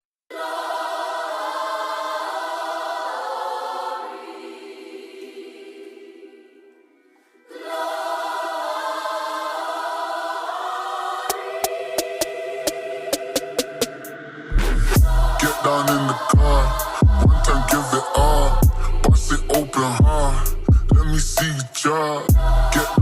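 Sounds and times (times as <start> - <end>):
choir-like vocal pad: 0.3 - 23.0.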